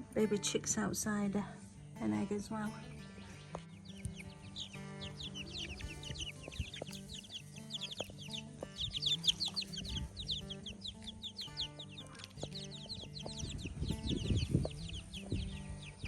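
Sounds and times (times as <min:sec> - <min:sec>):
baby chicks peeping: 0:02.0 - 0:16.0.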